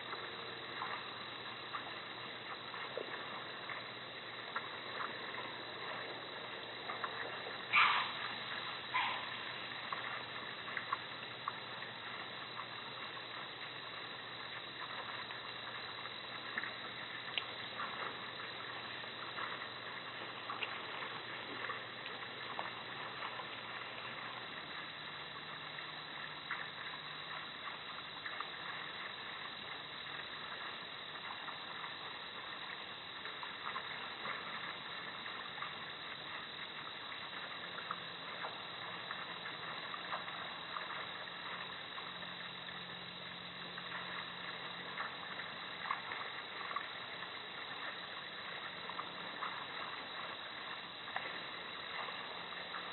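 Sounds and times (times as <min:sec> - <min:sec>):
constant hiss: 0:00.0 - 0:52.9
faint ticks: 0:00.0 - 0:52.9.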